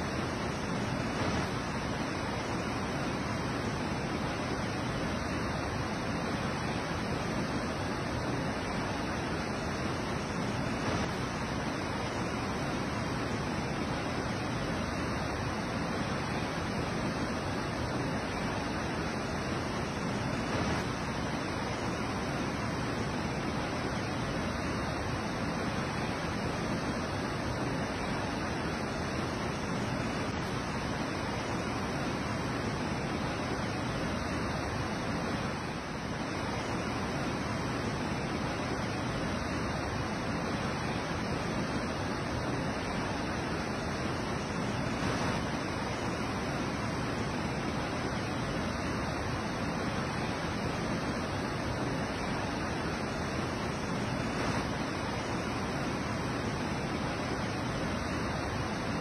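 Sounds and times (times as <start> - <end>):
waterfall rushing into a pool: 0.0 - 59.0.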